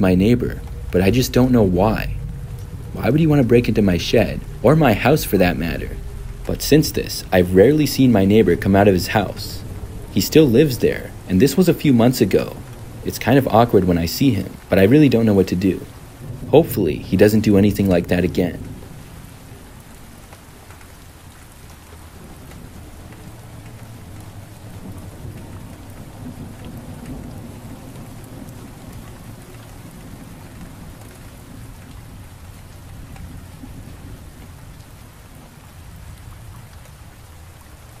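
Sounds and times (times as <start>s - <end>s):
rain on pavement: 0.0s - 38.0s
thunder rumble: 0.0s - 38.0s.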